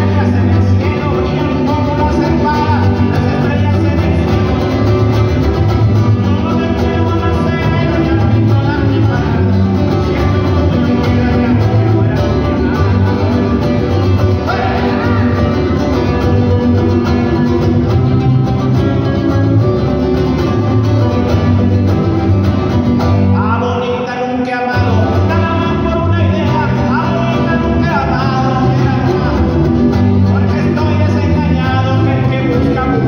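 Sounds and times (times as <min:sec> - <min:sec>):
electric bass line: 0:00.0 - 0:23.8, 0:24.8 - 0:33.0
acoustic guitar strumming: 0:00.0 - 0:33.0.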